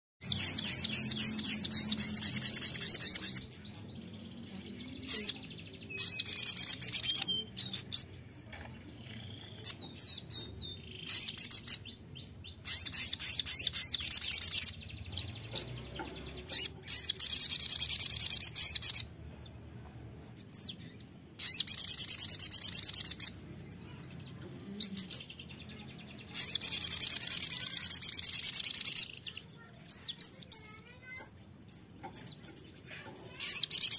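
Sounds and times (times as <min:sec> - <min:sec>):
bird trilling: 0:00.2 - 0:03.6, 0:04.8 - 0:08.2, 0:09.3 - 0:19.2, 0:20.4 - 0:24.2, 0:24.8 - 0:33.9
soft bird chirps: 0:00.2 - 0:33.9.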